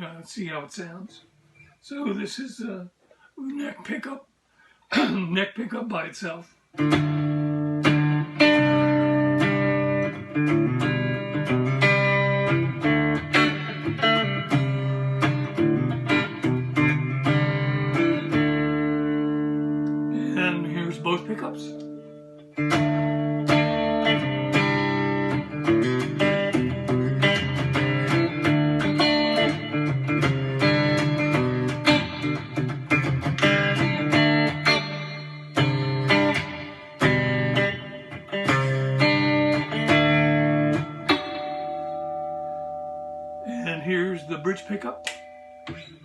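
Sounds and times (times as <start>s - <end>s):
electric guitar notes and chords: 6.8s - 46.0s.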